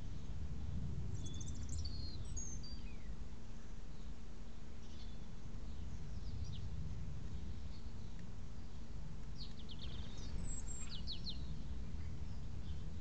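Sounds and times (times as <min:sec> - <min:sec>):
songbird high chirps: 0:00.0 - 0:13.0
steady low rumble: 0:00.0 - 0:13.0.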